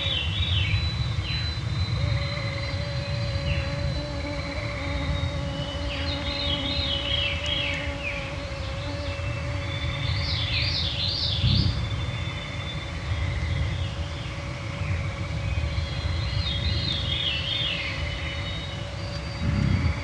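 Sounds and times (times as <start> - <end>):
mosquitoes whining: 0.0 - 20.0.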